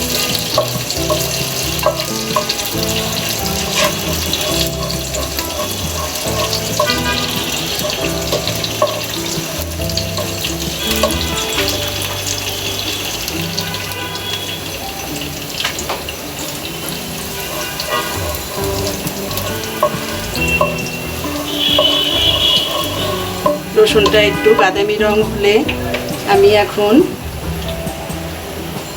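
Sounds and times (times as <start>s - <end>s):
background music: 0.0s - 28.9s
garlic sizzling in a frying pan: 0.0s - 28.9s.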